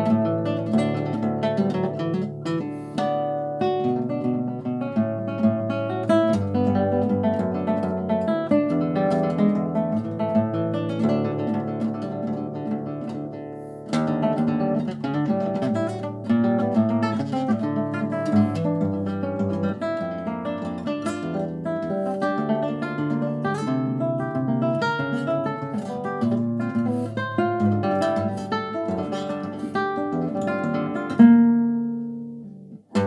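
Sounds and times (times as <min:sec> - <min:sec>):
fingerstyle classical guitar: 0:00.0 - 0:33.0.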